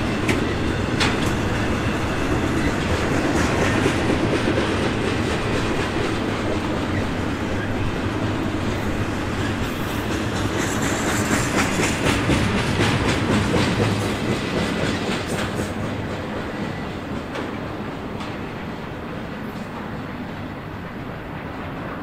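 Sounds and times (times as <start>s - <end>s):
freight train wheels clattering: 0.0s - 22.0s.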